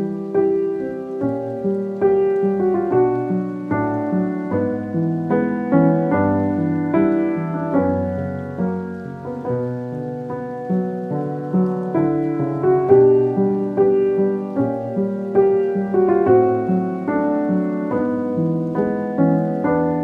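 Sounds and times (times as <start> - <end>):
slow solo piano piece: 0.0 - 20.0.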